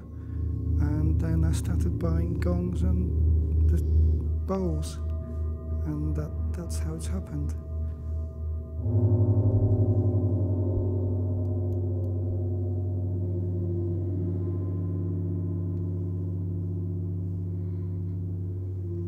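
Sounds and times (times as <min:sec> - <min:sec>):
gong played with soft mallet: 0:00.0 - 0:19.0.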